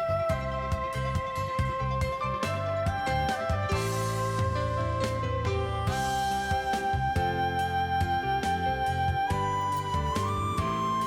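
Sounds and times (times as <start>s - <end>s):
held melody line: 0.0s - 11.0s.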